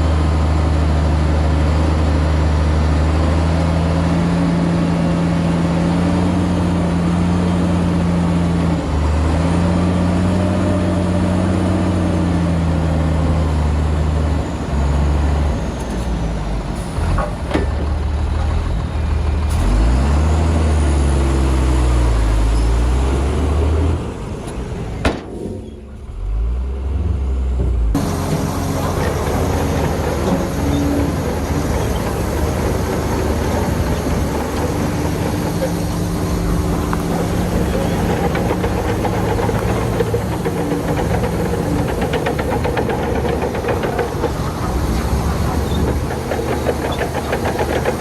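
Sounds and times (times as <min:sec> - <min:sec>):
diesel engine revving: 0:00.0 - 0:25.0, 0:25.8 - 0:48.0.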